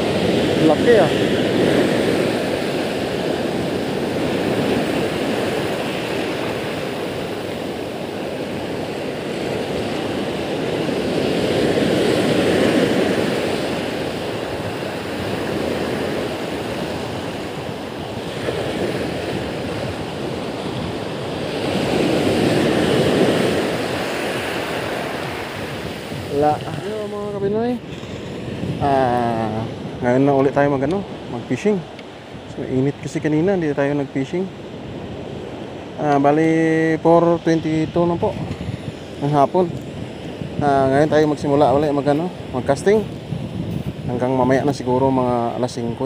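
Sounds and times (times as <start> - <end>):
sea surf washing up gravel beach: 0.0 - 46.0.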